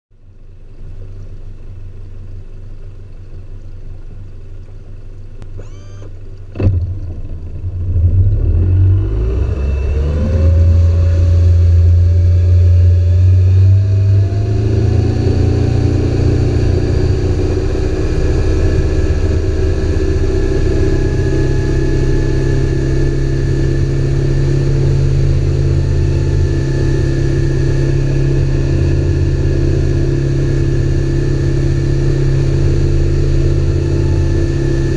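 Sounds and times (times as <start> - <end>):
wind: 0.1 - 34.9
outboard motor running: 0.2 - 34.9.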